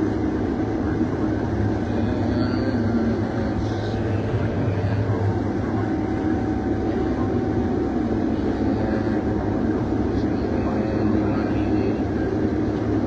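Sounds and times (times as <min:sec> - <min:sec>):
combine harvester drone: 0:00.0 - 0:13.0
low hum: 0:00.0 - 0:13.0.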